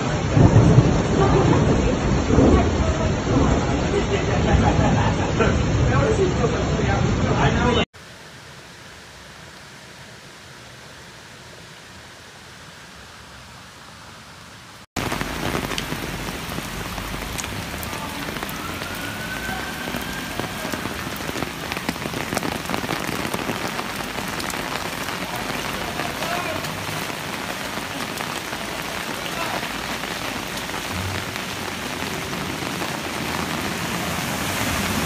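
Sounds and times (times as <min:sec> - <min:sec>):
heavy rain on flooded street: 0:00.0 - 0:35.0.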